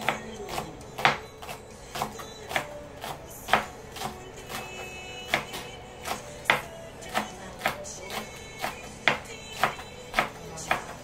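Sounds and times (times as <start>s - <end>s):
knife chopping on cutting board: 0.0s - 11.0s.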